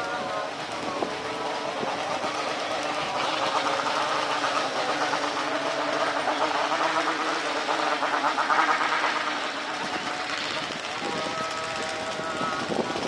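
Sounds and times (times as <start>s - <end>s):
car passing: 0.0s - 12.9s
jet engine noise: 0.0s - 13.0s
motorcycle engines running: 0.0s - 13.0s.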